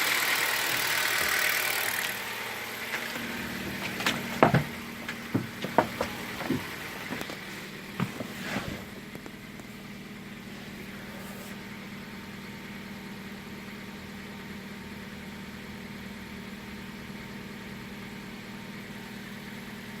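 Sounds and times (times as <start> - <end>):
car engine idling with clatter: 0.0 - 20.0.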